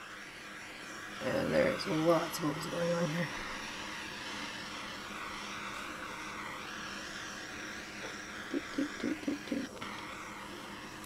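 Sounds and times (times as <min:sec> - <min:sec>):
butane torch hissing: 0:00.0 - 0:11.0.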